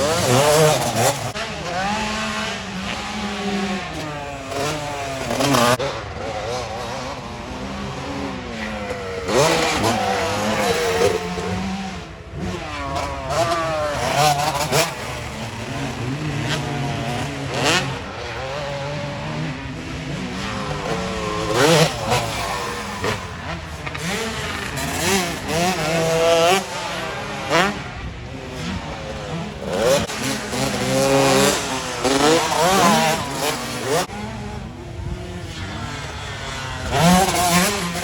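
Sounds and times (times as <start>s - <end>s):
motocross bike engines revving: 0.0s - 38.0s.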